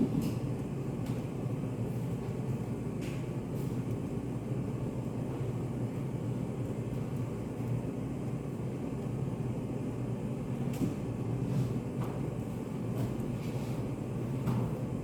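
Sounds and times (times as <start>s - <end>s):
steady low room hum: 0.0s - 15.0s.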